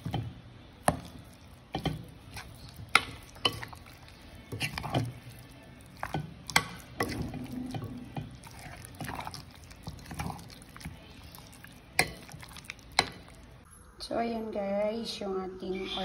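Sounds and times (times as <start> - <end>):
wet squelching of coated chicken: 0.8 - 13.6.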